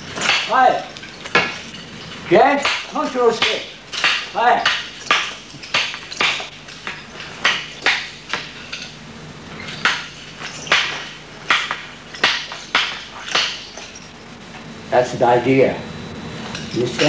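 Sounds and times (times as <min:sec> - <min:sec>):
nunchaku knocking and clacking: 0:00.0 - 0:14.2.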